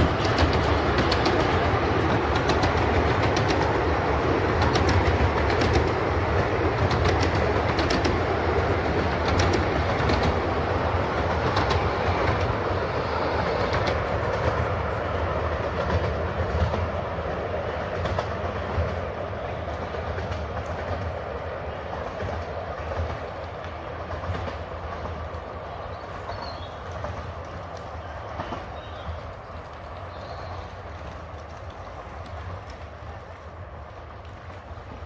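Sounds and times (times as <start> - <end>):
train coaches clacking over rail joints: 0.0 - 35.0.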